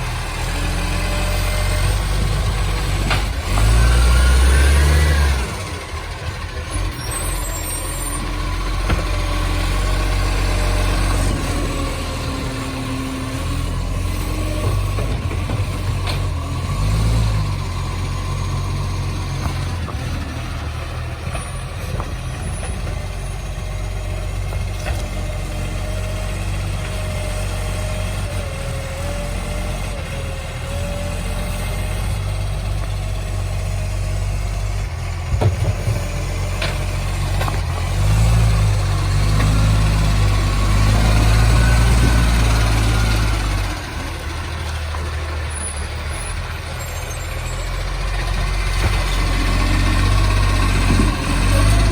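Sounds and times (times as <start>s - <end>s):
truck diesel engine roaring: 0.0s - 51.9s.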